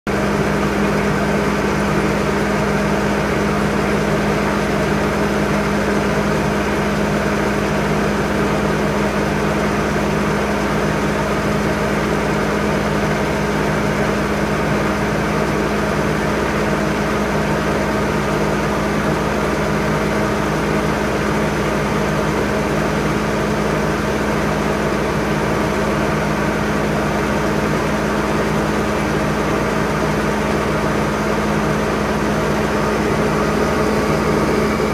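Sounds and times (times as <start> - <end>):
auger mechanical hum: 0.1 - 34.9.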